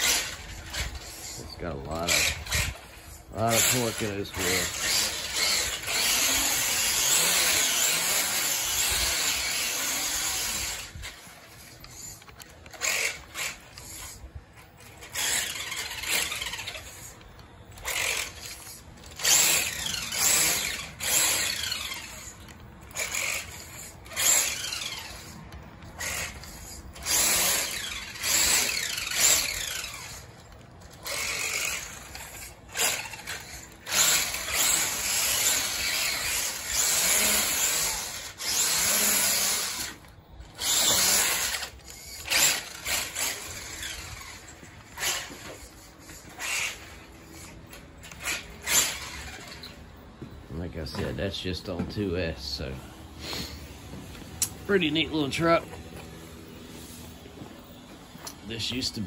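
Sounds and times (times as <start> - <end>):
rc truck motor whining: 0.0 - 50.0, 50.8 - 57.2, 58.2 - 59.0.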